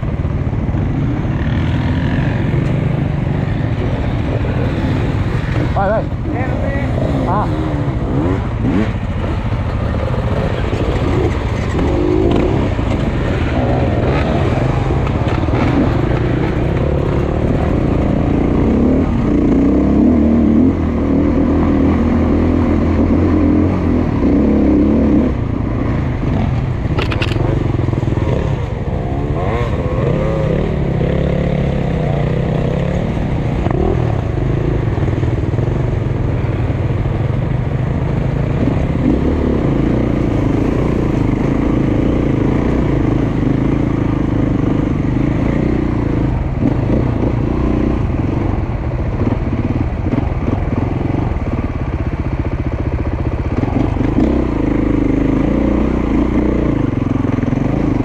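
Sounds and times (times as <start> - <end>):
dirt bike engine revving: 0.9 - 35.9, 38.0 - 51.2, 53.5 - 58.0.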